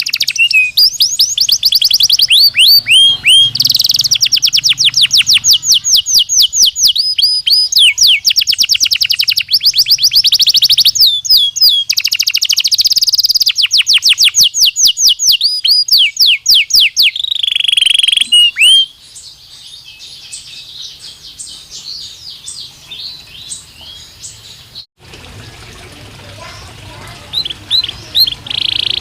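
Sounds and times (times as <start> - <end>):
canary singing trills: 0.0 - 24.9, 26.4 - 29.0.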